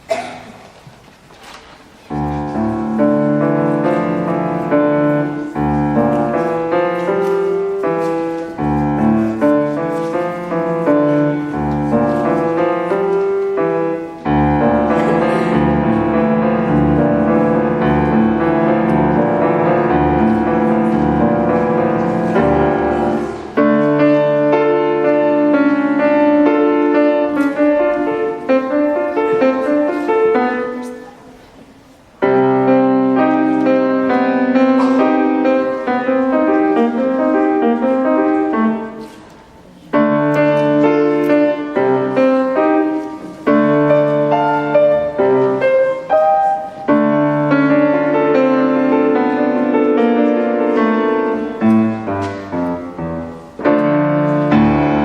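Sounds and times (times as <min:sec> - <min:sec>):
slow piano piece: 0:00.0 - 0:55.0.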